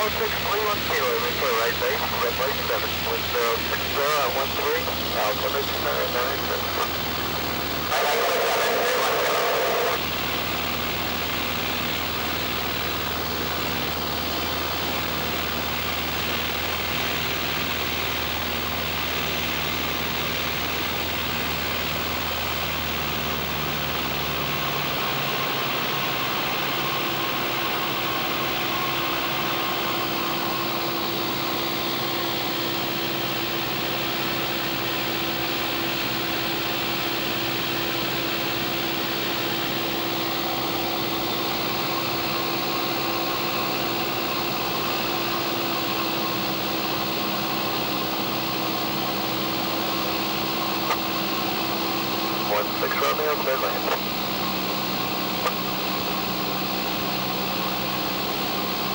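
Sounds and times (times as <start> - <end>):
propeller plane engine droning: 0.0 - 58.9.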